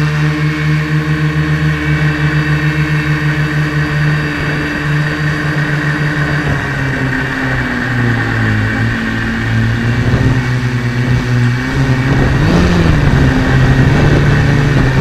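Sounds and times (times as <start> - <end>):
quadcopter motors humming: 0.0 - 15.0.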